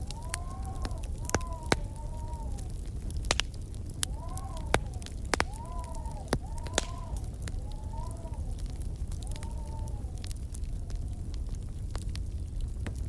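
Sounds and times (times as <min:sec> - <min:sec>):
fire crackling and popping: 0:00.0 - 0:13.0
wind howling: 0:00.0 - 0:13.0.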